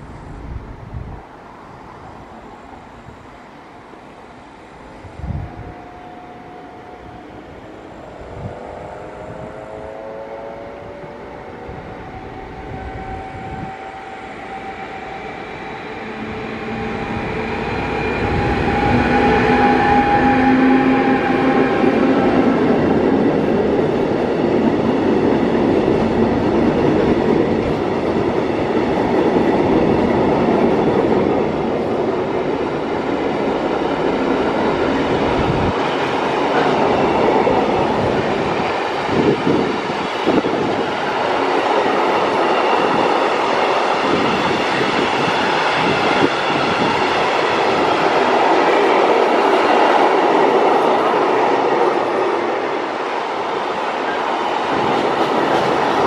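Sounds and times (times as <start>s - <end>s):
electric locomotive whine and hum: 0.0s - 56.0s
train rumble: 0.0s - 56.0s.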